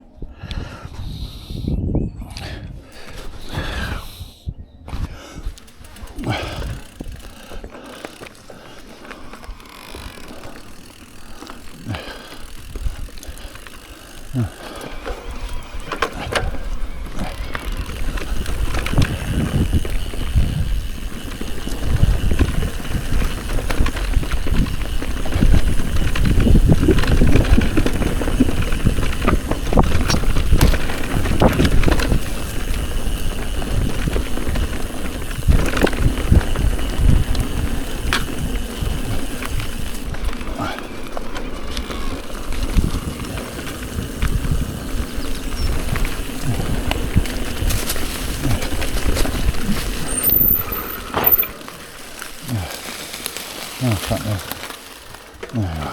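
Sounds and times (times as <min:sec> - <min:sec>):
wind rumbling on microphone: 0:00.0 - 0:51.6
bike tyres on dirt: 0:00.0 - 0:55.9
bike chain rattling: 0:05.2 - 0:55.9.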